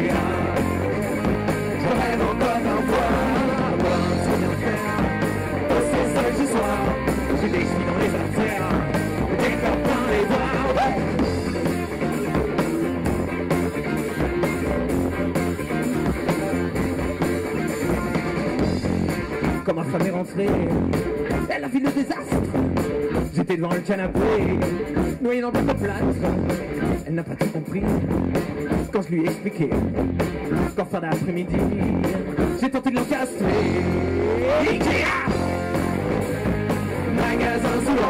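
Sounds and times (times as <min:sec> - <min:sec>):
bass guitar: 0:00.0 - 0:38.0
drum kit beat: 0:00.0 - 0:38.0
electric guitars: 0:00.0 - 0:38.0.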